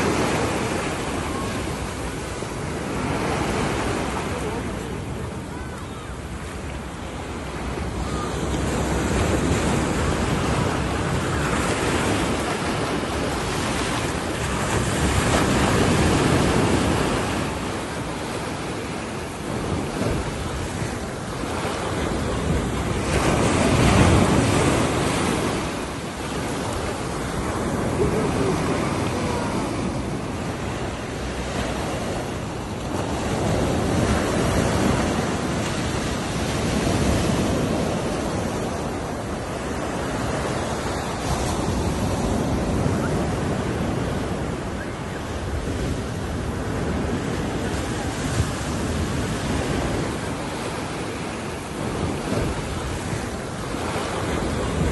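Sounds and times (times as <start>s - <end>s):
surf breaking on a beach: 0.0s - 54.9s.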